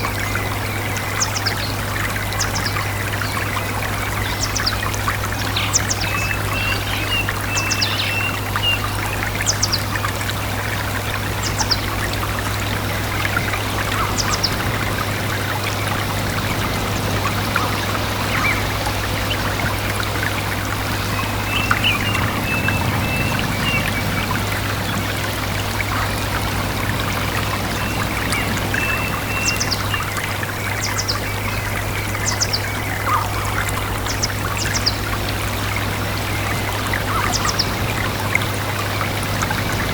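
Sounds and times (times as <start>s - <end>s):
stream trickling and splashing: 0.0s - 39.9s
birds chirping and trilling: 0.1s - 10.0s, 11.2s - 39.9s.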